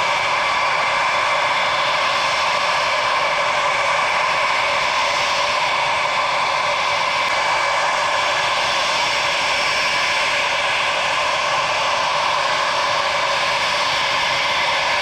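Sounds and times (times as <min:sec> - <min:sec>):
jetliner engines taxiing: 0:00.0 - 0:15.0.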